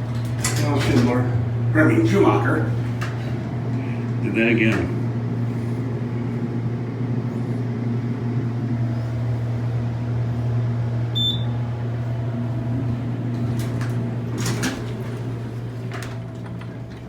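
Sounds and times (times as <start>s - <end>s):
elevator low hum: 0.0s - 17.0s.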